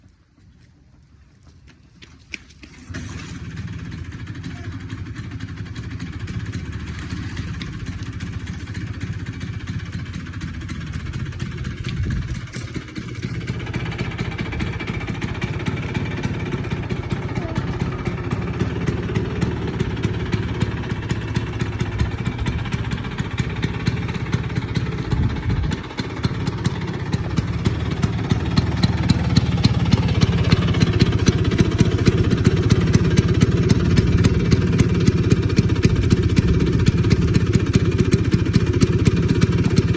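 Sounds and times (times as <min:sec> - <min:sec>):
scooter engine starting and running: 0:00.0 - 0:39.9.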